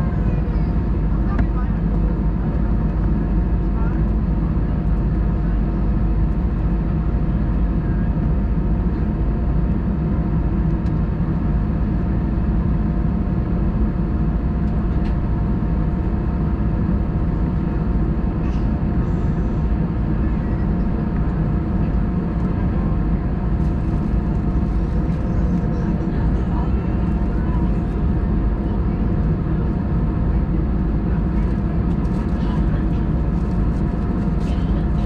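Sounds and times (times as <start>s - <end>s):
airplane cabin rumble: 0.0s - 35.0s.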